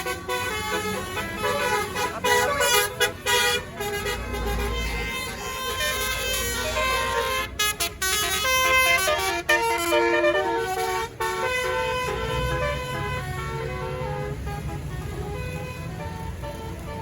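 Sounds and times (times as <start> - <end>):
bus engine rumble: 0.0 - 17.0
bus horn playing a tune: 0.0 - 17.0.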